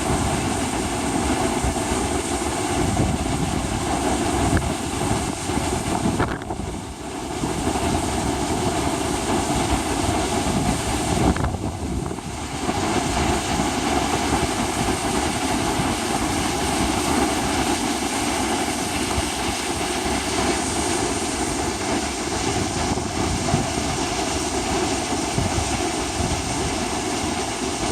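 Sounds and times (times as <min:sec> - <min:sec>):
storm wind and sea rushing: 0:00.0 - 0:27.9.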